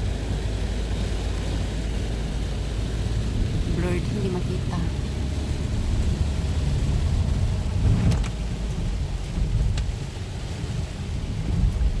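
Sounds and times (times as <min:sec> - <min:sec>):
heavy rain falling: 0:00.0 - 0:12.0
steady low rumble: 0:00.0 - 0:12.0.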